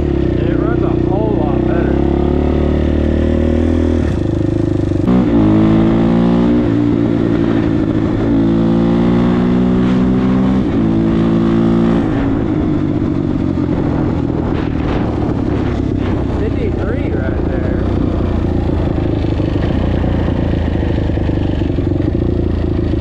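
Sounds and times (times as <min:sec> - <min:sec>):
quad engine accelerating hard: 0:00.0 - 0:23.0.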